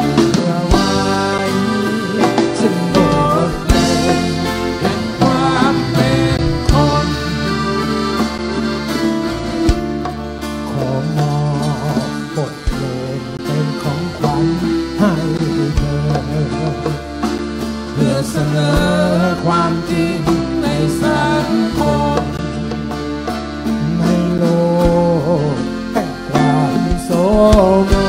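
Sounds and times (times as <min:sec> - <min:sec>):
acoustic guitar: 0:00.0 - 0:28.0
congas: 0:00.0 - 0:28.0
drum kit: 0:00.0 - 0:28.0
electric guitar: 0:00.0 - 0:28.0
melodic lead line: 0:00.0 - 0:28.0.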